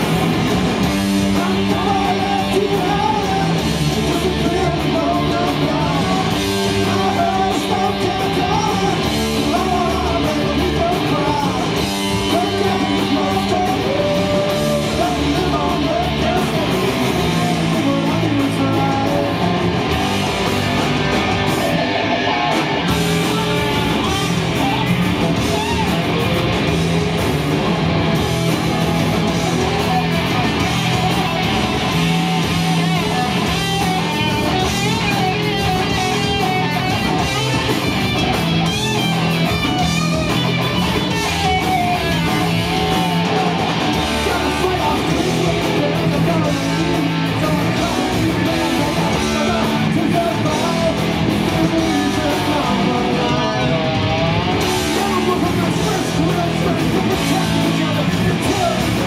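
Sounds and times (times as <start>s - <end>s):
live rock band: 0.0s - 59.0s
wavering lead guitar: 0.0s - 59.0s.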